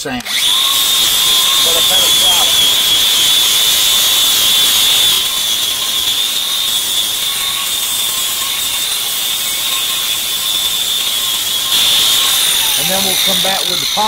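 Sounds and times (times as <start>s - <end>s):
power grinder whining: 0.0s - 14.0s.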